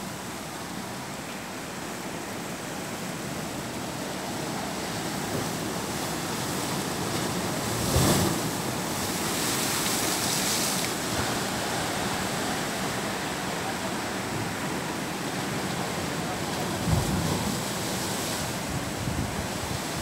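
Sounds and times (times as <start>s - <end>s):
surf washing against rocks: 0.0s - 20.0s.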